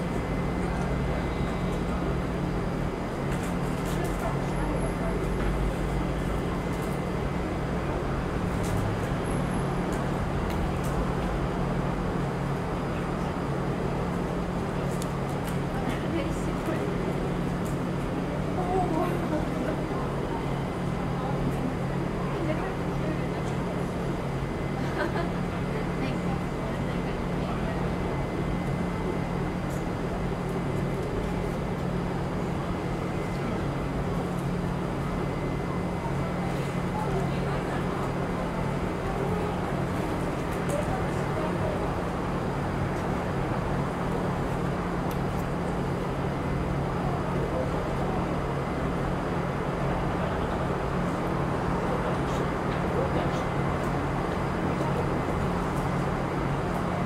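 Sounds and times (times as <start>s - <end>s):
city traffic hum: 0.0s - 57.0s.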